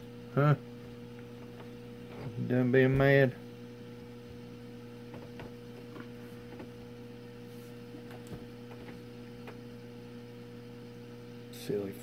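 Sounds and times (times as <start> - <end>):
aquarium equipment humming: 0.0 - 12.0.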